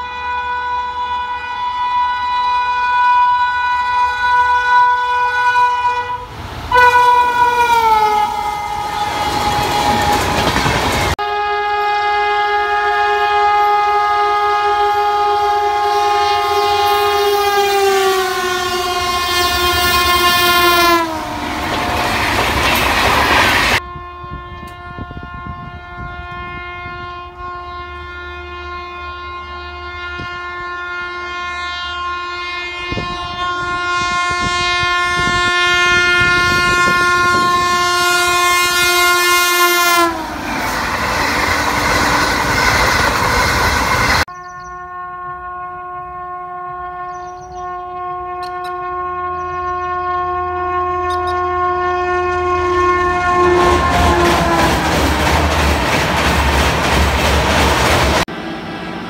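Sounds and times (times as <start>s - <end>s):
locomotive horn blasts: 0.0s - 22.4s, 23.2s - 55.9s.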